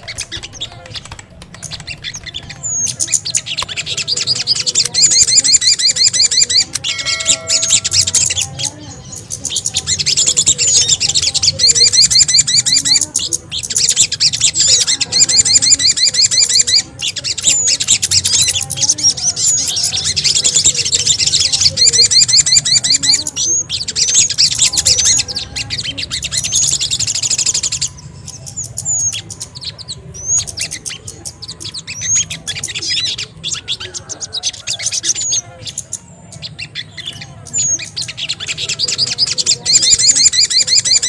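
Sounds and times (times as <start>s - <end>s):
small birds chattering: 0.0s - 41.0s.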